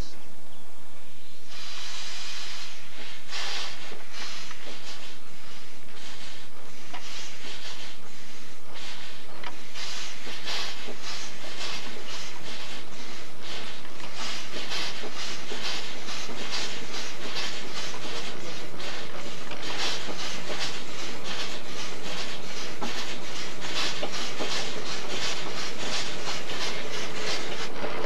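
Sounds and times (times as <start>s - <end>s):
hiss of escaping steam: 1.2s - 28.0s
steam engine exhaust chuffing: 1.5s - 28.0s.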